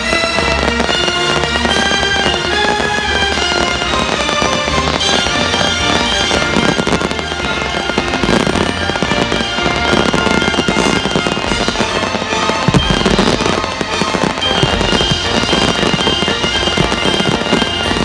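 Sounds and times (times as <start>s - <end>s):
fireworks bangs and crackling: 0.0s - 18.0s
loud show music: 0.0s - 18.0s.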